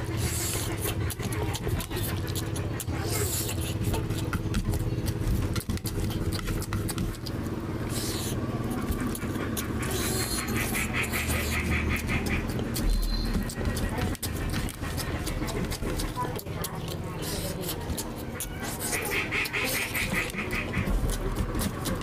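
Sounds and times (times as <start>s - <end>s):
steady low hum: 0.0s - 22.0s
wet chewing and lip-smacking: 0.0s - 22.0s.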